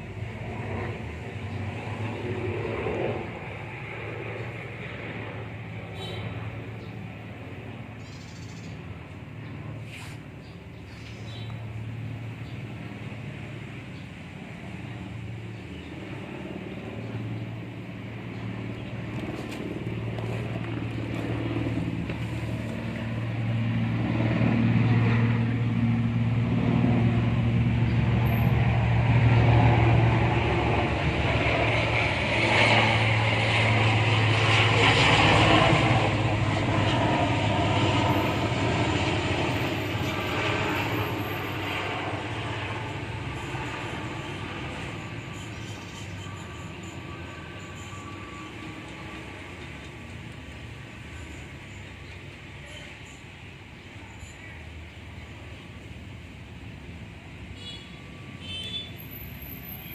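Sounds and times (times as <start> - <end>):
vehicle engine drone passing by: 0.0 - 52.9.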